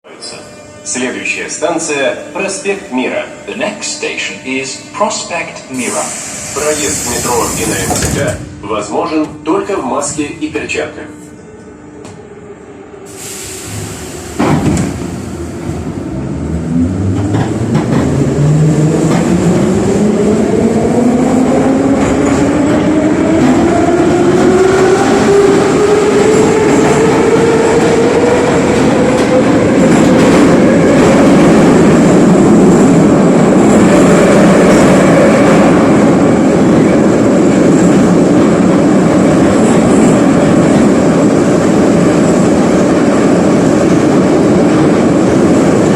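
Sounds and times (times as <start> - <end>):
metro train accelerating: 0.0 - 45.9.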